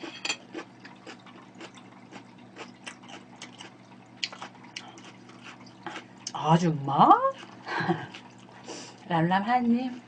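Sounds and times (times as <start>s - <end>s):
person chewing food: 0.0s - 6.4s, 7.3s - 9.0s
low electrical hum: 0.0s - 10.0s.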